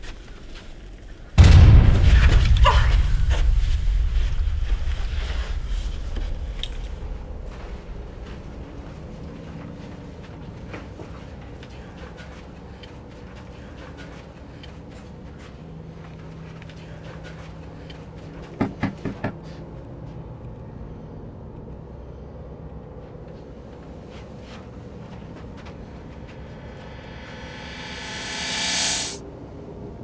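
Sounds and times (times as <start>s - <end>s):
steady low hum: 1.4s - 16.8s, 20.2s - 29.2s.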